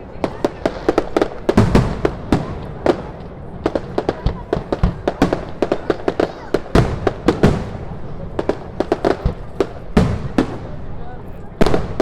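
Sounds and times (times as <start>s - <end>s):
fireworks bangs and booms: 0.0s - 12.0s.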